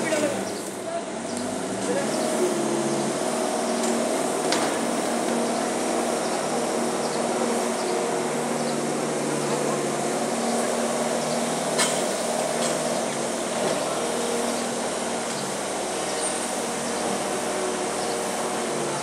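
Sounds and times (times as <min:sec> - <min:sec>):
distant skid steer engine running: 0:00.0 - 0:19.0.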